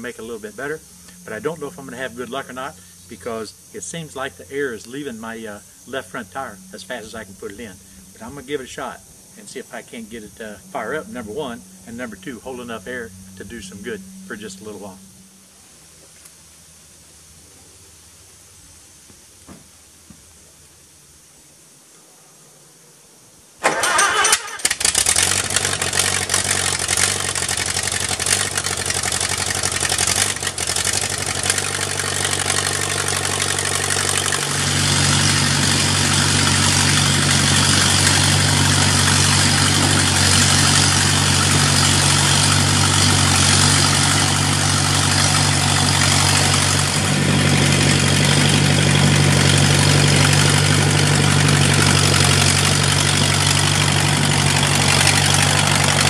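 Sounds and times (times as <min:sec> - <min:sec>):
road grader engine running: 0:00.0 - 0:17.6, 0:23.6 - 0:56.0.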